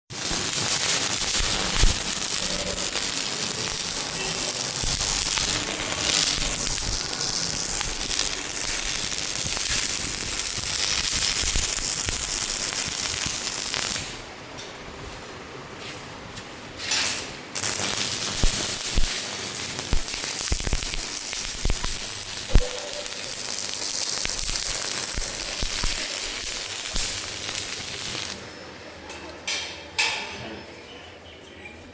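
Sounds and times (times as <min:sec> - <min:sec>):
electric arc welding crackle: 0:00.1 - 0:14.7, 0:16.8 - 0:28.5.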